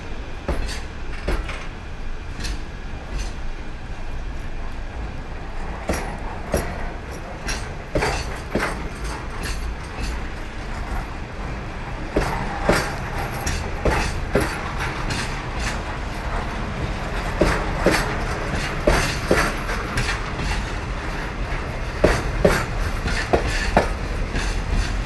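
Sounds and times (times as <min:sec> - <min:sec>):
train rumbling past: 0:00.0 - 0:25.0
wheels clacking over rail joints: 0:00.0 - 0:25.0.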